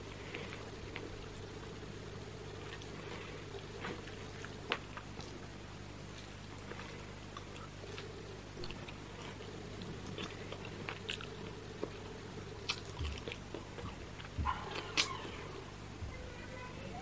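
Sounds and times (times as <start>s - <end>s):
person chewing: 0.0s - 15.6s
steady low hum: 0.0s - 17.0s.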